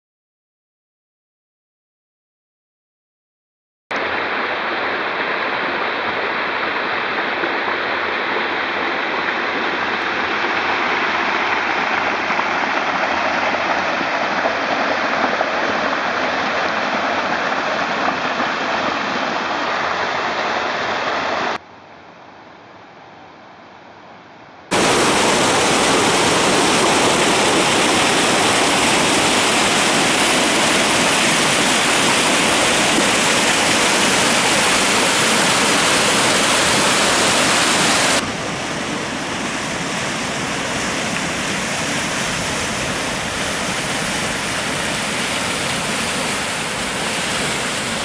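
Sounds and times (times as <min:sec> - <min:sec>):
water rushing over a weir: 0:03.9 - 0:21.6, 0:24.7 - 0:48.0.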